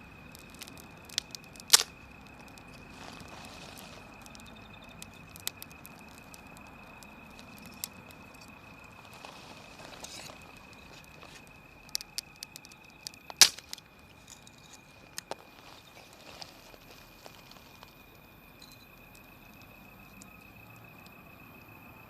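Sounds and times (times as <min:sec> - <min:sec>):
wood fire crackling: 0:00.0 - 0:21.7.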